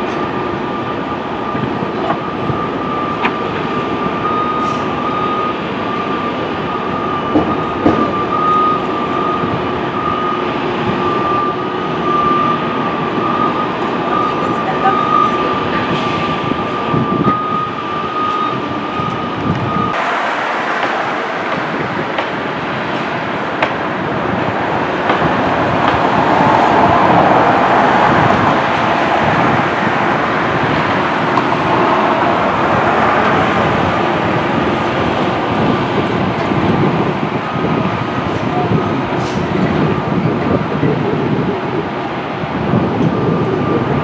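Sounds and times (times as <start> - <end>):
train running on rails: 0.0 - 44.0.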